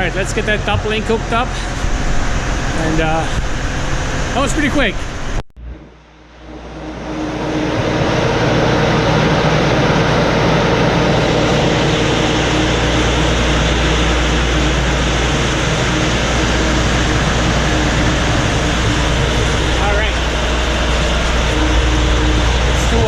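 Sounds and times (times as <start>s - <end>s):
snowblower turning: 0.0s - 5.3s, 6.6s - 23.0s
tractor engine running: 0.0s - 23.0s.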